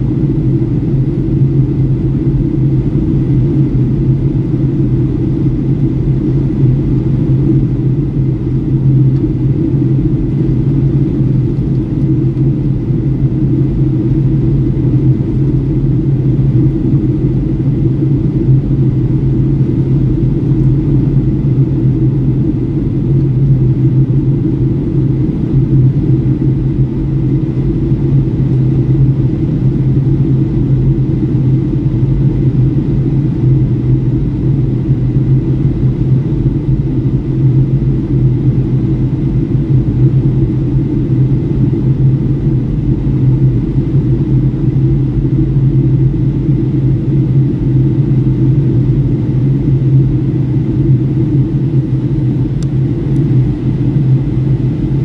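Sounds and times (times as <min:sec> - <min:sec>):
airplane cabin drone in flight: 0:00.0 - 0:55.0.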